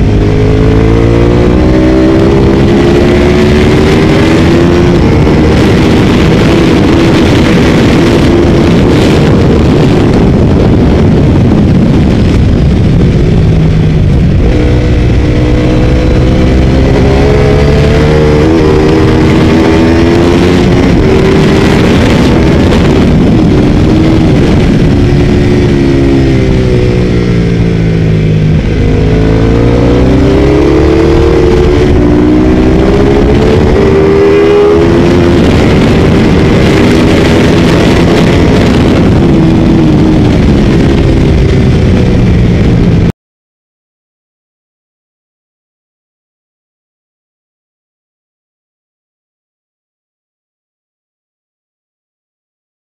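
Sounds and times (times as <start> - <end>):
motorcycle engine revving: 0.0 - 43.1.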